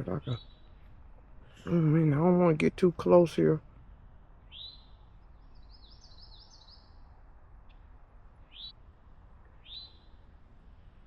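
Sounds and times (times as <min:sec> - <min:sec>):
low outdoor rumble: 0:00.0 - 0:11.0
songbird chirping: 0:00.0 - 0:11.0.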